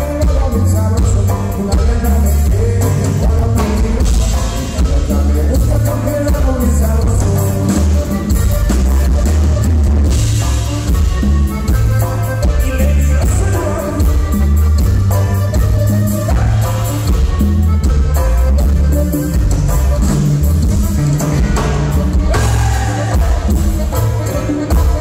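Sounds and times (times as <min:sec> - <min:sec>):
bass guitar: 0:00.0 - 0:25.0
button accordion: 0:00.0 - 0:25.0
congas: 0:00.0 - 0:25.0
drum kit: 0:00.0 - 0:25.0.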